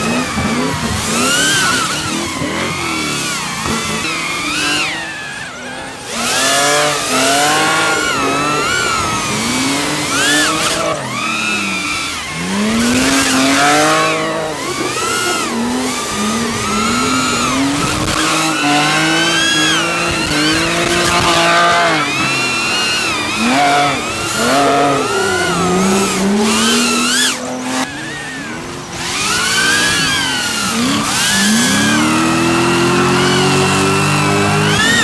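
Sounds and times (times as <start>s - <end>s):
car engine revving: 0.0s - 35.0s
tyres squealing: 0.0s - 35.0s.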